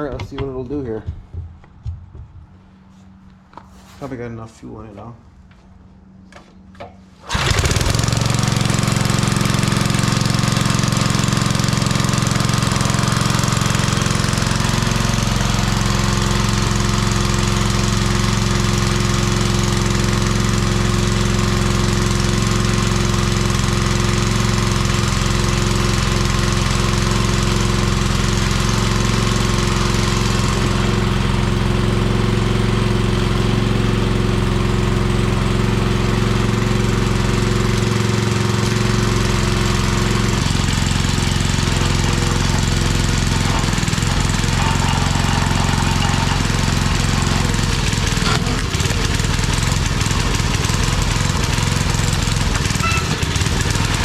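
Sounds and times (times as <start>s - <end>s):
small engine running steadily: 7.2s - 54.0s.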